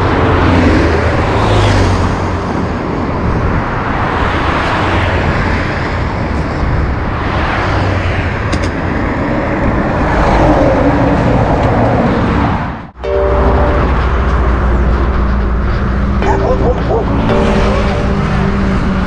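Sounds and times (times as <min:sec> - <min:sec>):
cars passing on highway: 0:00.0 - 0:19.0.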